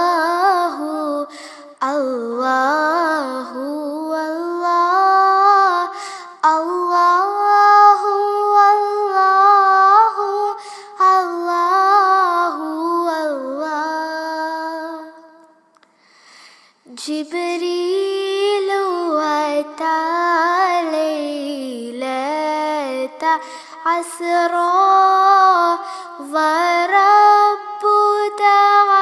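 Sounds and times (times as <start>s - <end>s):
solo devotional singing: 0.0s - 15.5s, 16.8s - 29.0s.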